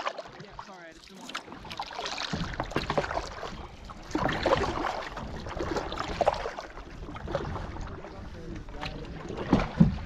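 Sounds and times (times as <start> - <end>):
paddle strokes: 0.0 - 10.0
water rushing and splashing: 0.0 - 10.0.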